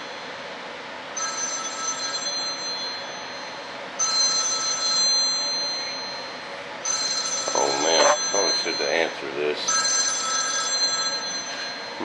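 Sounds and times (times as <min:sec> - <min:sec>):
telephone ringing: 0:01.1 - 0:12.0.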